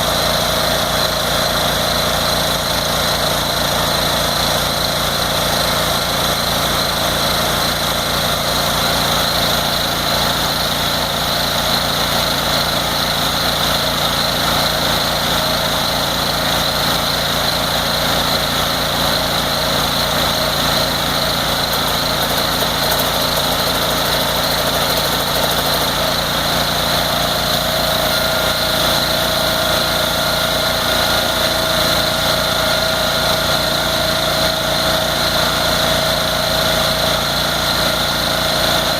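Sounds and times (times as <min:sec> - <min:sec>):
machine engine running steadily: 0:00.0 - 0:38.9.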